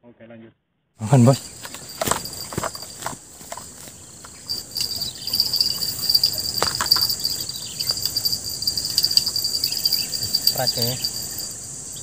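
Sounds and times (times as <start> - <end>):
insect chorus trilling: 1.0 - 12.0.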